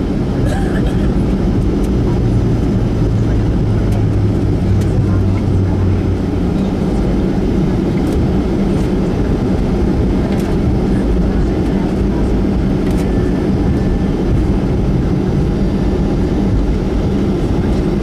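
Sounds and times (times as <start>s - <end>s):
airframe rumbling: 0.0s - 18.0s
jet engines idling: 0.0s - 18.0s
low hum: 0.0s - 18.0s.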